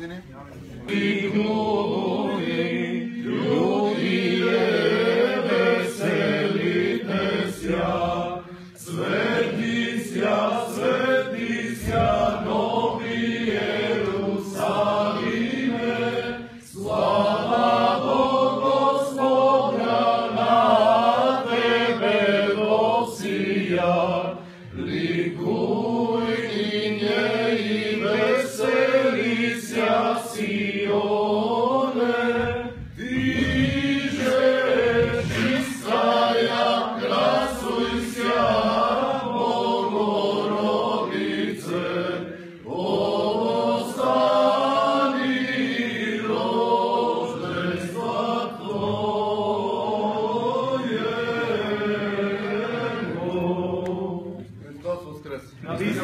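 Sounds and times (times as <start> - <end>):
group singing a hymn: 0.8 - 56.0.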